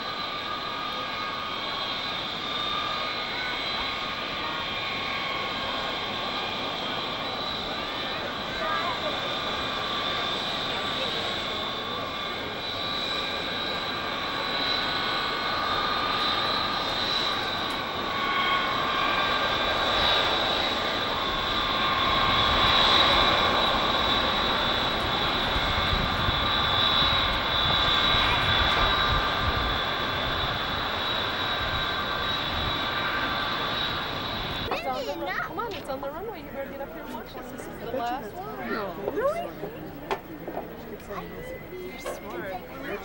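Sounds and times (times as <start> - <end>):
jet engines whining: 0.0 - 43.0.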